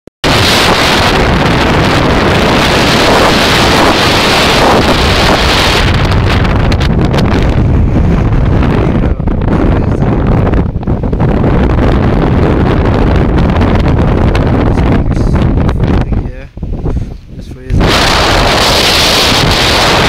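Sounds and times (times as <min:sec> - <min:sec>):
strong wind on microphone: 0:00.2 - 0:20.0.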